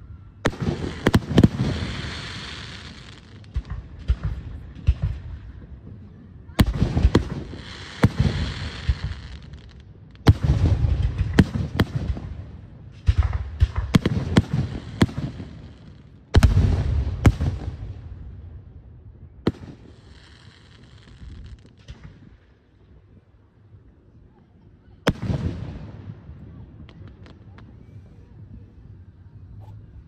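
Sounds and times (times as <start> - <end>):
fireworks bursting with sharp bangs: 0.0 - 18.6, 19.4 - 23.5, 24.9 - 30.0.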